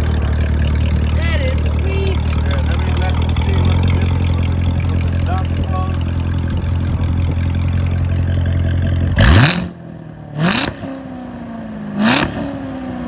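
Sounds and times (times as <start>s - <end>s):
car engine idling: 0.0s - 13.0s
car engine revving: 0.0s - 13.0s.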